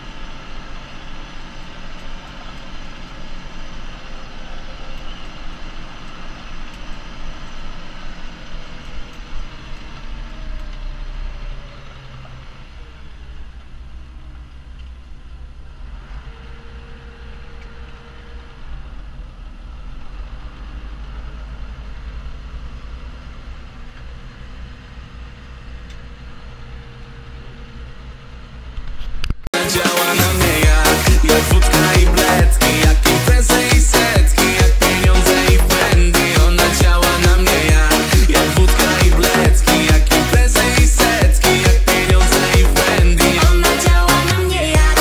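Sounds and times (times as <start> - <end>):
combine harvester working: 0.0 - 45.0
tractor diesel engine running: 0.0 - 45.0.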